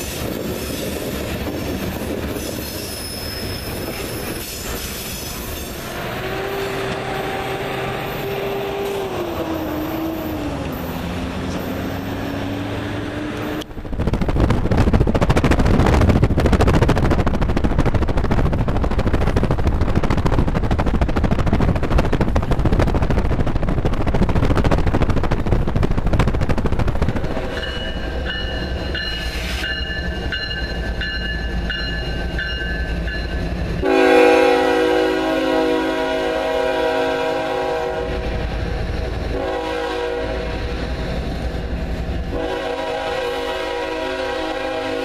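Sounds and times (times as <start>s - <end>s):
diesel locomotives passing: 0.0s - 45.0s
road noise: 0.0s - 45.0s
train rumbling by: 0.0s - 45.0s.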